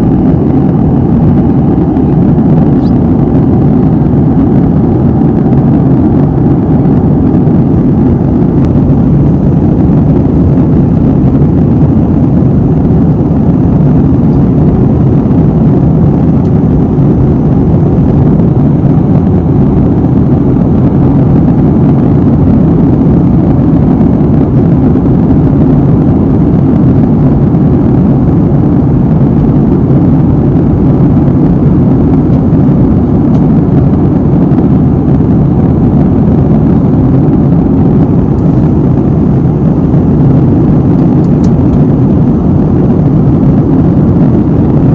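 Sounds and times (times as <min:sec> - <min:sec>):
jet airliner cabin roar: 0:00.0 - 0:44.9.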